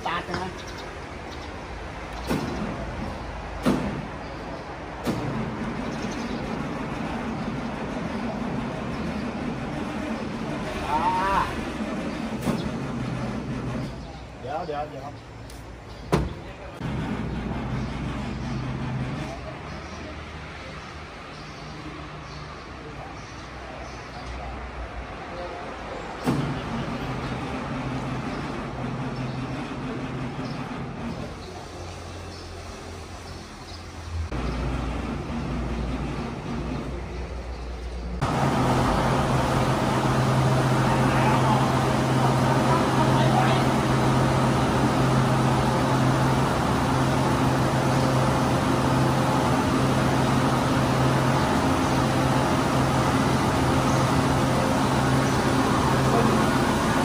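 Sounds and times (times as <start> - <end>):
diesel engine starting and humming: 1.1 - 14.5, 16.3 - 20.1, 26.2 - 57.0.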